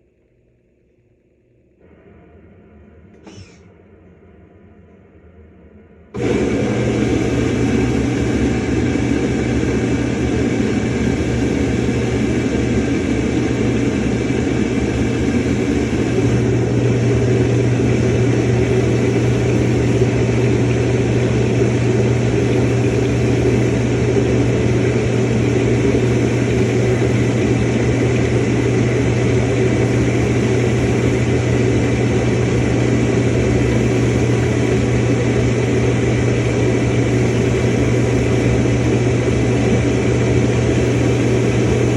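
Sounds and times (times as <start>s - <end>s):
washing machine running: 1.8s - 41.9s.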